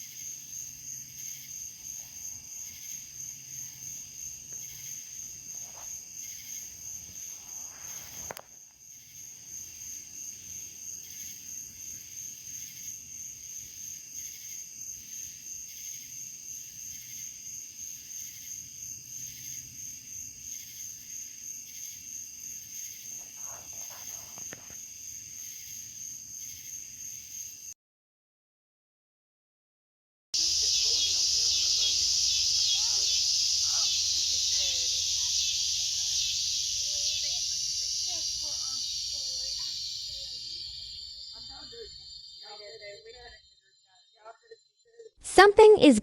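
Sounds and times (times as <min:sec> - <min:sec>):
insects trilling: 0:00.0 - 0:27.7, 0:30.4 - 0:45.1.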